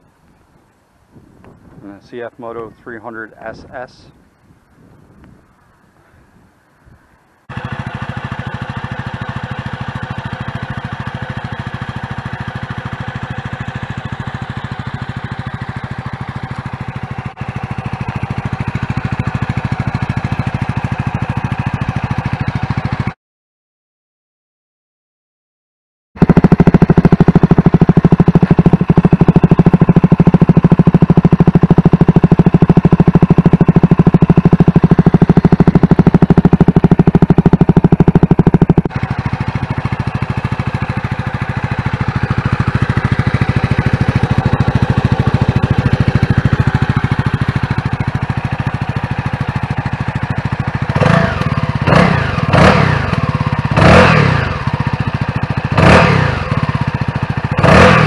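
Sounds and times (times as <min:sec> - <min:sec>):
motorcycle engine idling: 0:00.0 - 0:23.2, 0:26.2 - 0:58.0
motorcycle engine revving: 0:07.4 - 0:23.2, 0:26.2 - 0:58.0.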